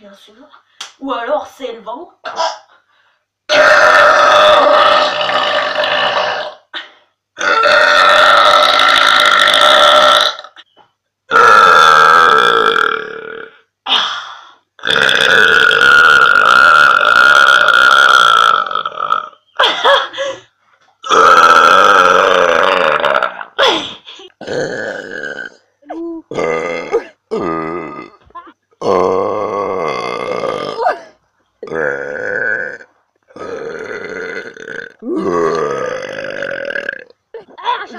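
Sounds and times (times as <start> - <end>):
woman burping loudly: 2.2 - 2.7, 3.5 - 10.7, 11.3 - 14.1, 14.8 - 20.4, 21.0 - 37.9.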